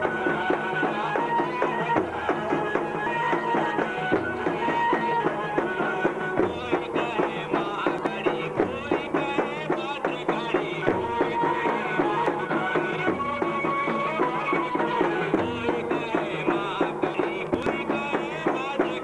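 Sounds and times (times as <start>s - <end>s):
live band playing folk music: 0.0s - 19.0s.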